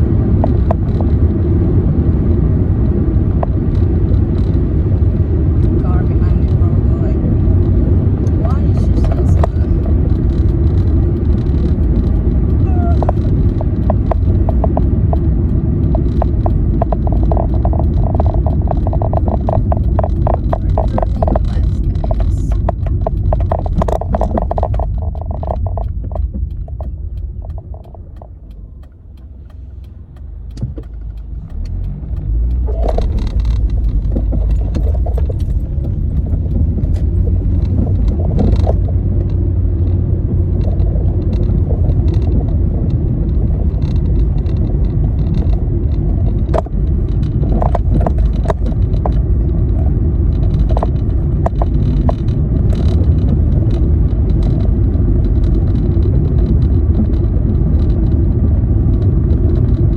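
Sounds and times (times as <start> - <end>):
car driving rumble: 0.0 - 59.9
rapid rattle: 0.0 - 59.9.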